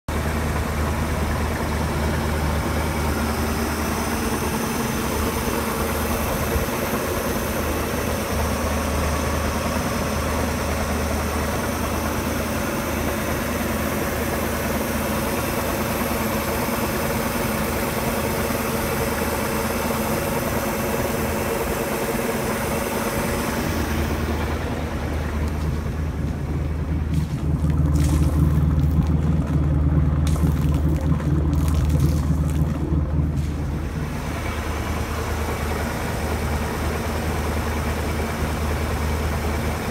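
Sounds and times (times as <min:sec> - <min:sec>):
boat engine idling: 0:00.0 - 0:39.9.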